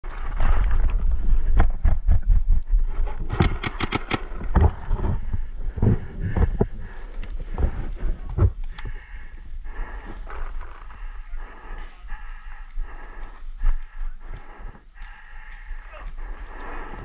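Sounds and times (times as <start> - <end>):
low microphone rumble: 0.0 - 3.5, 4.2 - 17.0.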